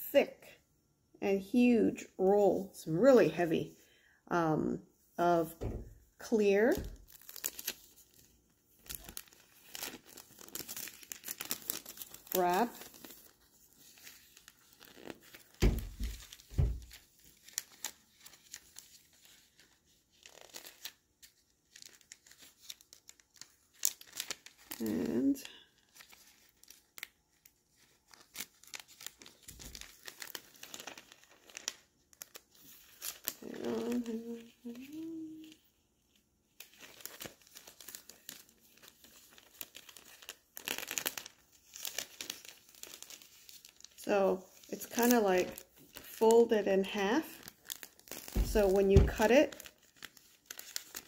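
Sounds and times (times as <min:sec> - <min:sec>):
cellophane wrap crinkling: 0:05.4 - 0:51.0.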